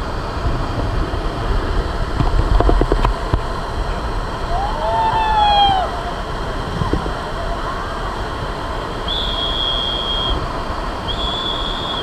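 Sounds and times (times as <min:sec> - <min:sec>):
river rapids roaring: 0:00.0 - 0:12.0.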